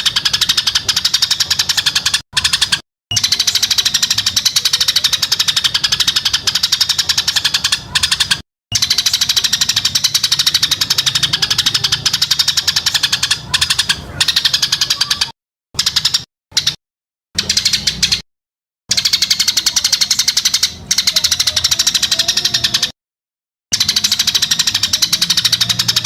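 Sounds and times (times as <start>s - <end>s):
songbird rattling song: 0.0s - 16.8s, 17.4s - 18.2s, 18.9s - 23.0s, 23.7s - 26.0s.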